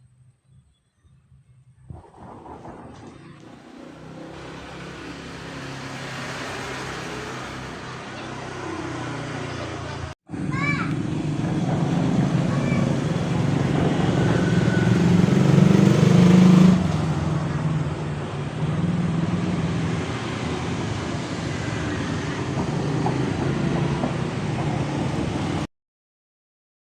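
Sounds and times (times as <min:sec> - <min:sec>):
engine humming: 0:01.8 - 0:25.6.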